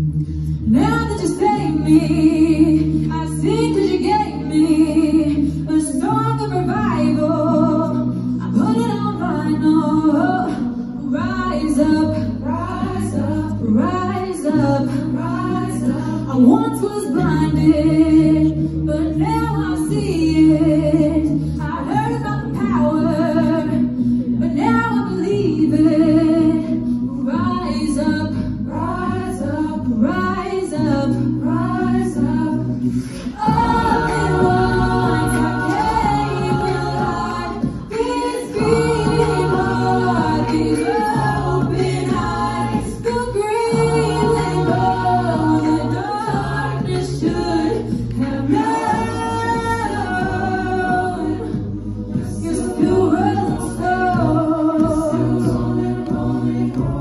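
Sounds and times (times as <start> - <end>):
group vocal backing: 0.0 - 57.0
low sung bass line: 0.0 - 57.0
female soloist singing: 0.7 - 57.0.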